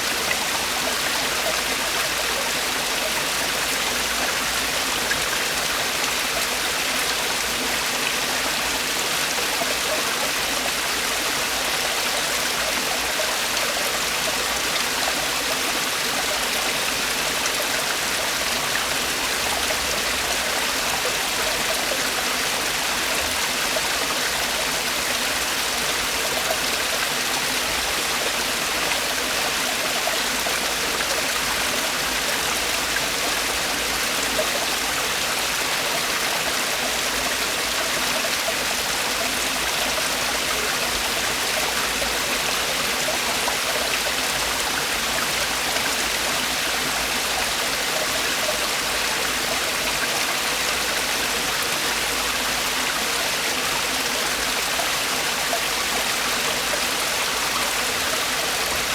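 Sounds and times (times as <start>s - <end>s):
stream water splashing over rocks: 0.0s - 58.9s.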